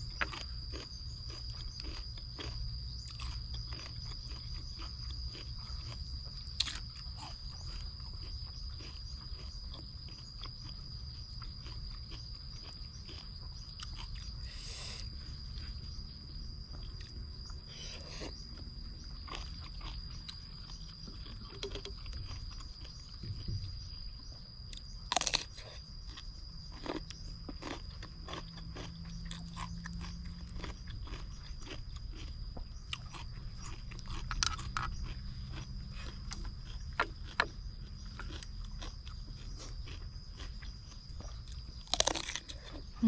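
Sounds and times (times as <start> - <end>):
chewing and crunching food: 0.0 - 43.0.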